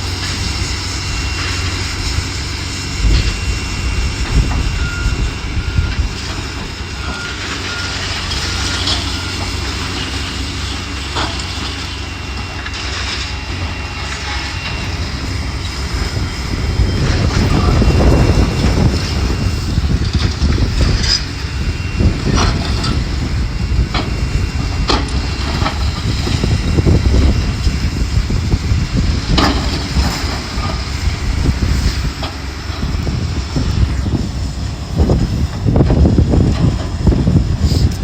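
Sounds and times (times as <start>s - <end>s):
demolition machinery rumbling: 0.0s - 38.0s.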